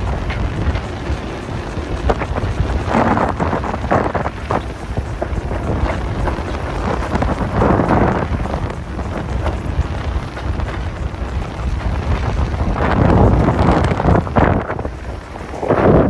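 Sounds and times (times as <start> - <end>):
water hissing along boat bow: 0.0 - 16.0
wind buffeting microphone: 0.0 - 16.0.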